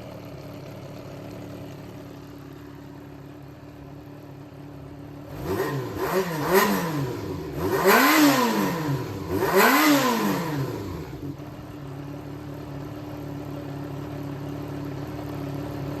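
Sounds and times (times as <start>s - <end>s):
motorcycle engine revving and idling: 0.0s - 16.0s.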